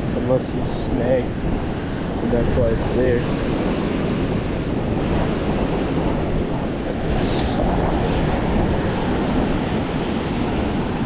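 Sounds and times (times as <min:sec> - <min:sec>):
river rushing: 0:00.0 - 0:11.0
wind rumbling on microphone: 0:00.0 - 0:11.0.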